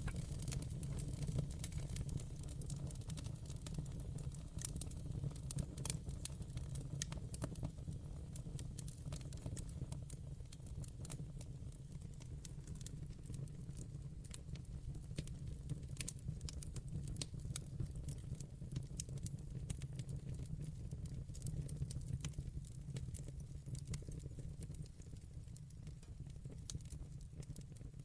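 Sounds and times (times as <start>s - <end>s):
fire crackling in a fireplace: 0.0s - 28.0s.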